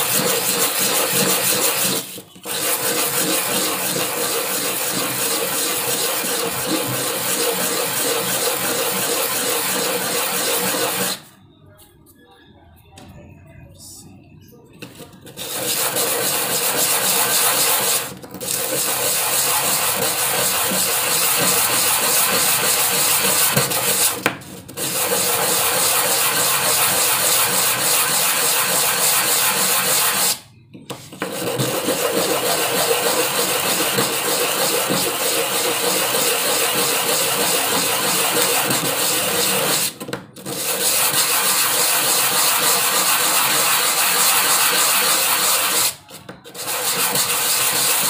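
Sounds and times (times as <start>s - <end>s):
sandpaper rubbing on wood: 0.0s - 11.2s, 15.3s - 24.2s, 24.8s - 39.9s, 40.5s - 48.0s.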